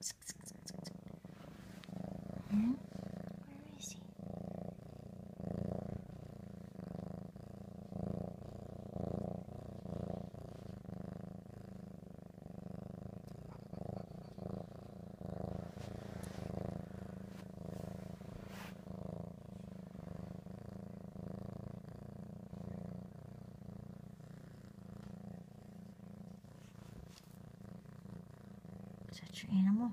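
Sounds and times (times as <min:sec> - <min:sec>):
kitten purring: 0:00.0 - 0:29.9.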